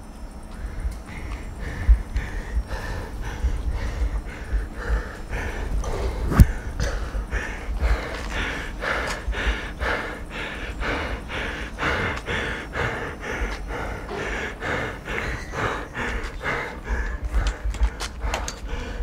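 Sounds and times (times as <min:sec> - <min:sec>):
low rumble: 0:00.4 - 0:19.0
person breathing quickly: 0:00.4 - 0:19.0.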